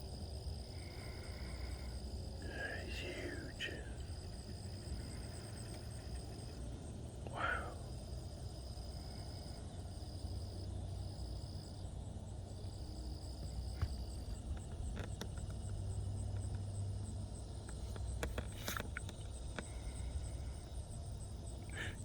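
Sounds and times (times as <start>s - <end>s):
high pulsing insect trill: 0.0s - 22.0s.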